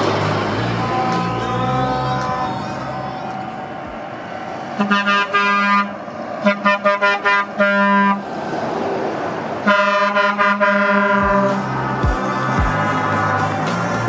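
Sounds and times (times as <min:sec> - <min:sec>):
truck horn honking: 0:00.0 - 0:08.3, 0:09.6 - 0:14.0
steady vehicle noise: 0:00.0 - 0:14.0.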